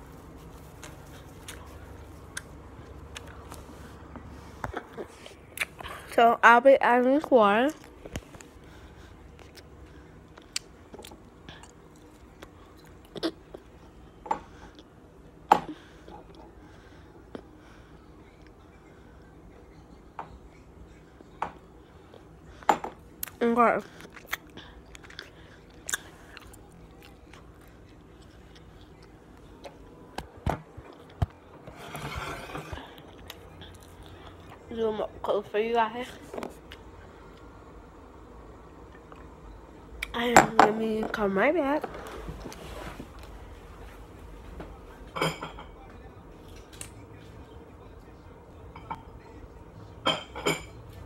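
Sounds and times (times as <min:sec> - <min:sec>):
low room noise: 0:00.0 - 0:51.0.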